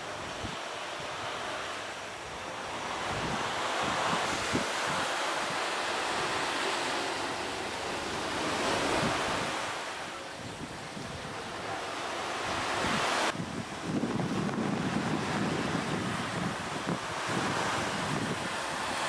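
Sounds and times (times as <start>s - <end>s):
surf: 0.0s - 19.0s
wind buffeting microphone: 2.4s - 19.0s.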